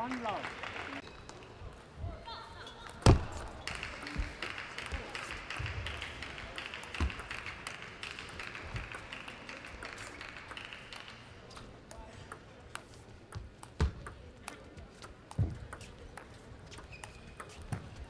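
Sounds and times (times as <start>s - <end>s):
crowd noise: 0.0s - 18.0s.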